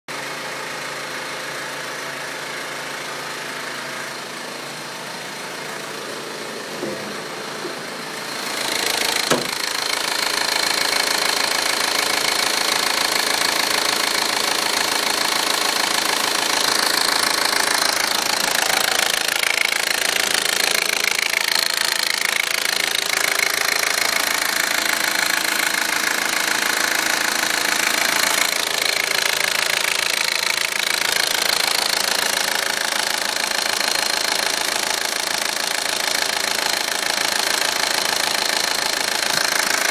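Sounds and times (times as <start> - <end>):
car engine idling: 0.1 - 35.8
engine clicking: 5.8 - 39.9.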